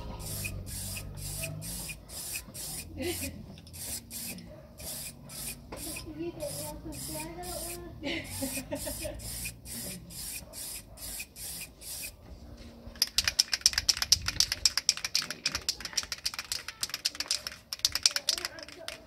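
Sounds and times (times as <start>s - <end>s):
aerosol can rattling when shaken: 0.0s - 12.2s, 12.9s - 19.0s
spray can hissing puffs: 0.0s - 12.2s, 13.0s - 18.8s.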